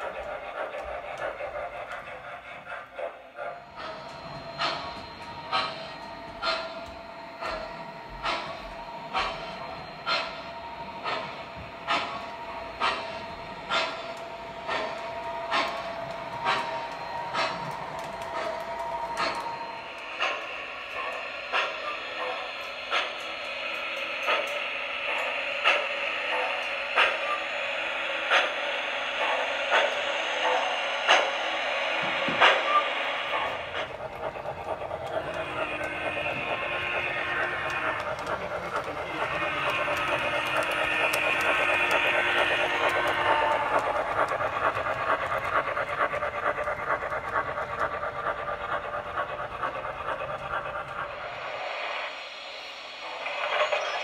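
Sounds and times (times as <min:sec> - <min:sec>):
model steam train chuffs: 0:00.0 - 0:54.0.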